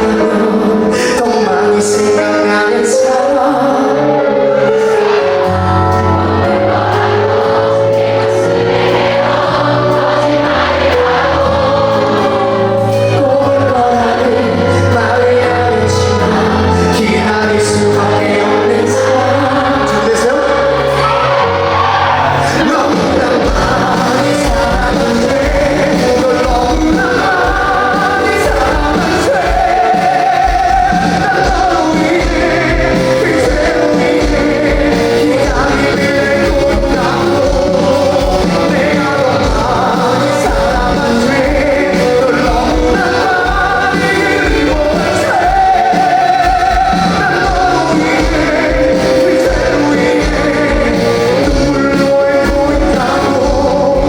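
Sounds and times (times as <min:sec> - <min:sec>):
lead vocal singing: 0:00.0 - 0:54.0
pop-rock band playing: 0:00.0 - 0:54.0.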